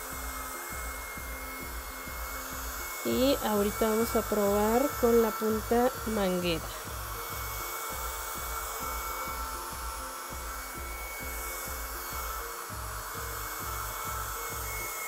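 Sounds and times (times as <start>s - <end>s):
mini vacuum high whine: 0.0s - 15.0s.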